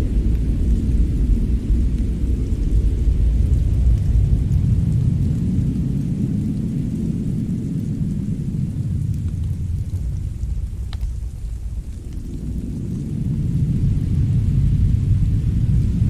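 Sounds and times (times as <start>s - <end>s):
fire crackling: 0.0s - 16.0s
fire rumbling: 0.0s - 16.0s.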